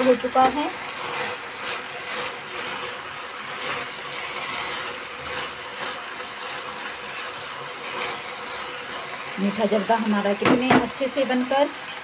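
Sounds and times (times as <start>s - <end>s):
spatula scraping pan: 0.0s - 12.0s.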